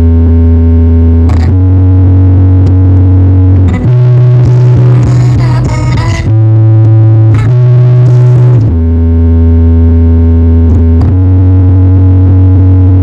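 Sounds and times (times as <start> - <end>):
loud bass-heavy synth music: 0.0 - 13.0.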